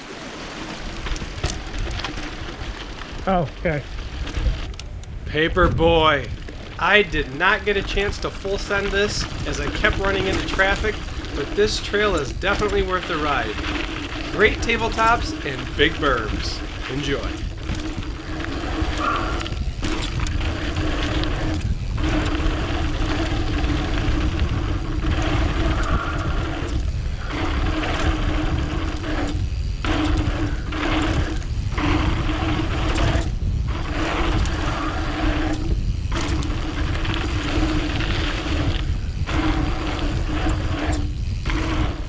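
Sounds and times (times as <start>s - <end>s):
bike tyre rumble: 0.0s - 42.0s
wind noise: 0.0s - 42.0s
buzzing tone: 5.2s - 42.0s.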